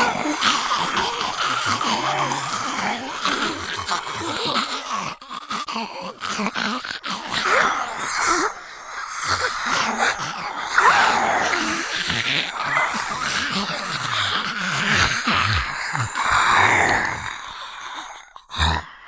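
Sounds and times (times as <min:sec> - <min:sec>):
zombie moaning and groaning: 0:00.0 - 0:08.3, 0:09.4 - 0:19.0.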